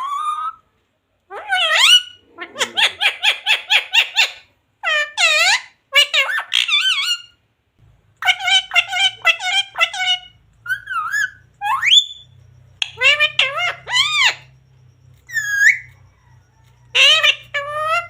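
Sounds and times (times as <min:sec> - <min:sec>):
parrot calling and chattering: 0:00.0 - 0:07.4, 0:08.1 - 0:18.0.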